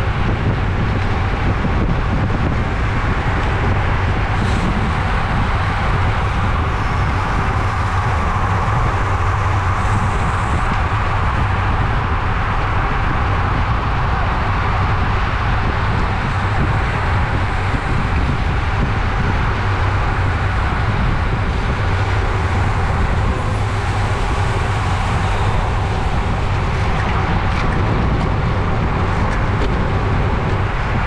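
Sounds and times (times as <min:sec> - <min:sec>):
road noise: 0:00.0 - 0:31.0
wind rushing: 0:00.0 - 0:31.0.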